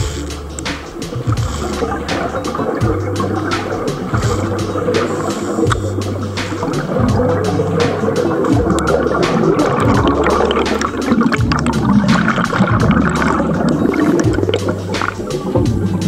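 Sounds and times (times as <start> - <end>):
low hum: 0.0 - 16.0
underwater air bubbles gurgling: 0.0 - 16.0.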